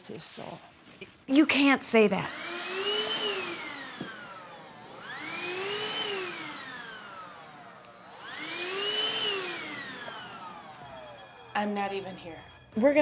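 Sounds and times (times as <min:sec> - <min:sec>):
handheld vacuum cleaner running: 0:02.0 - 0:12.6.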